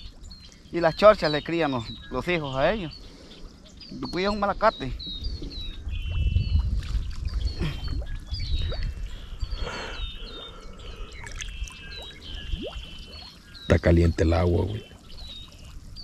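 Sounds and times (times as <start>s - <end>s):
water splashing and trickling: 0.0s - 9.6s, 10.2s - 16.0s
birds chirping: 0.0s - 16.0s.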